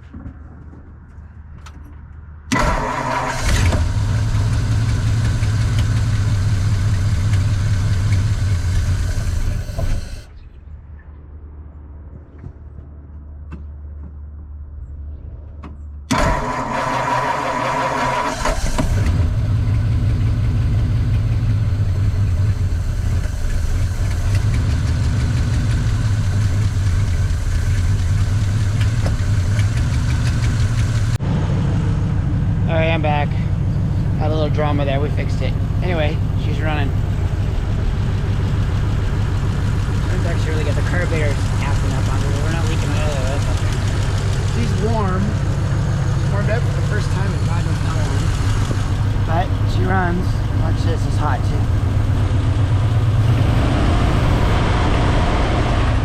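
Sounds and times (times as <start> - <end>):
car engine running steadily: 0.0 - 10.4, 15.4 - 56.0
car engine cranking and starting: 1.6 - 10.4, 16.1 - 31.2, 32.6 - 56.0.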